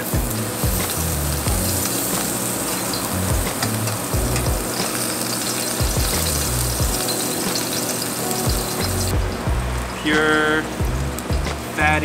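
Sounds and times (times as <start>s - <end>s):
background music bass line: 0.0s - 12.0s
pork belly sizzling on a grill: 0.0s - 12.0s.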